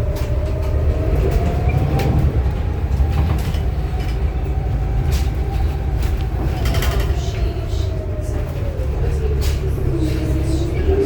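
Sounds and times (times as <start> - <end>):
bus body rattles: 0.0 - 11.0
bus drivetrain rumble and whine: 0.0 - 11.0.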